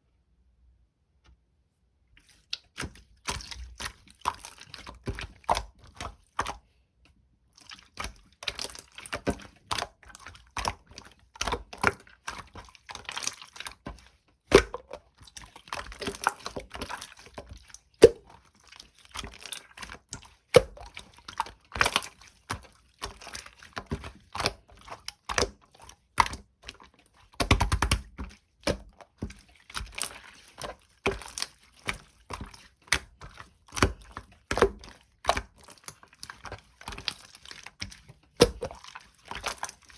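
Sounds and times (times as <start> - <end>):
slime squeezing: 7.6 - 39.9.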